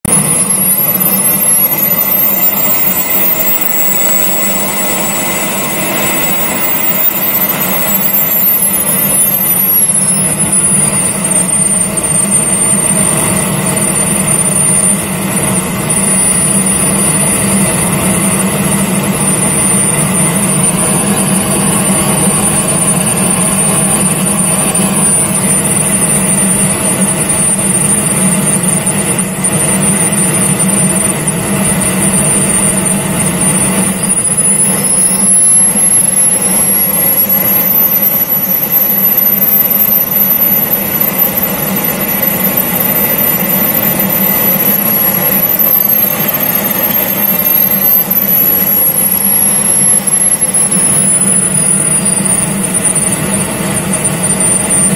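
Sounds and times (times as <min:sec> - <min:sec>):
model jet engines whining: 0:00.0 - 0:54.9.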